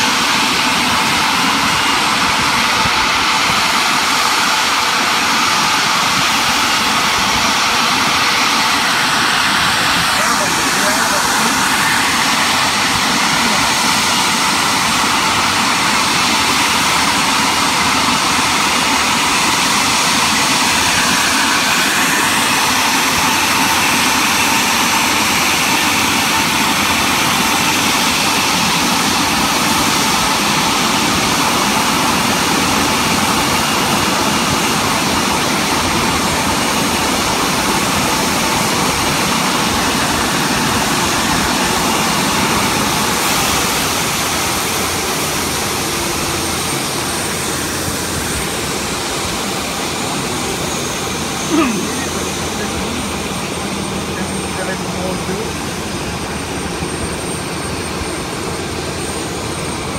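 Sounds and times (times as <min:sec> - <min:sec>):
jet engines idling: 0:00.0 - 0:59.9.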